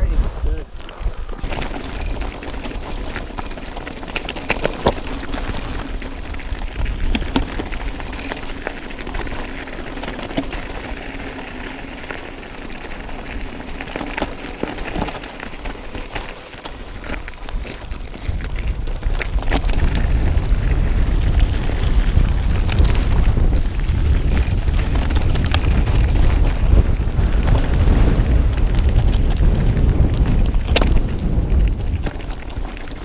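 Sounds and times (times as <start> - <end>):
tyres crunching over gravel: 0.0 - 33.0
wind rumbling on microphone: 0.0 - 33.0
bike clicks and rattles: 0.6 - 33.0.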